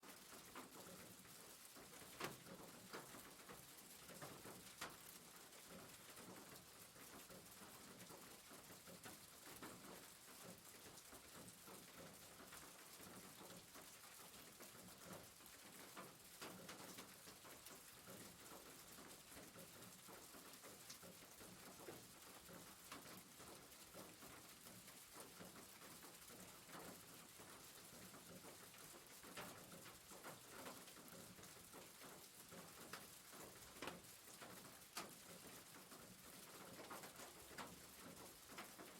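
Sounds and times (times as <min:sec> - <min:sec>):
faint rain on a roof: 0:00.0 - 0:38.9.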